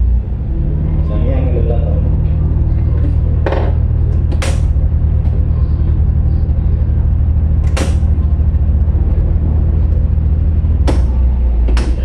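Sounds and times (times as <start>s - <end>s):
boat diesel engine running: 0.0s - 12.0s.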